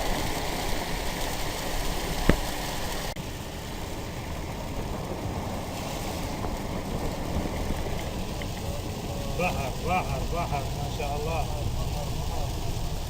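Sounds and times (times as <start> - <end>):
rain rushing: 0.0 - 13.0
vehicle moving on wet ground: 0.0 - 13.0.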